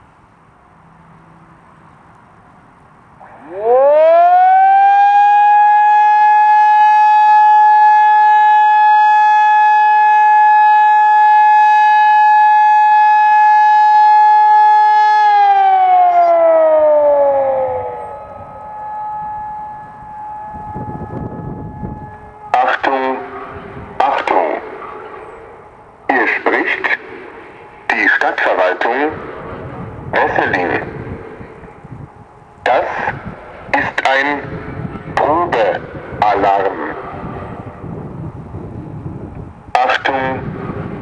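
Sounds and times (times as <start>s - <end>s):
electronic siren steady tone: 3.2s - 41.0s.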